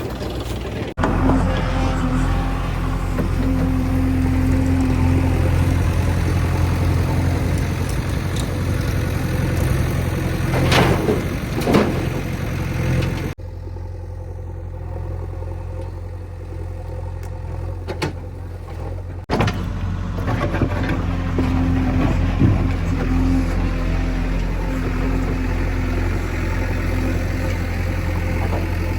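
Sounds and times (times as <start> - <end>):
heavy diesel machinery running: 0.0 - 28.9.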